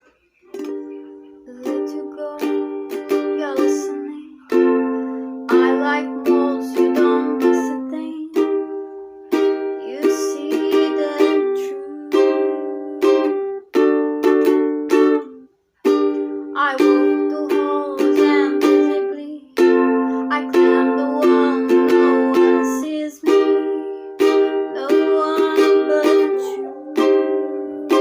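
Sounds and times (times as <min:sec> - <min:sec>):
ukulele chords: 0:00.0 - 0:28.0.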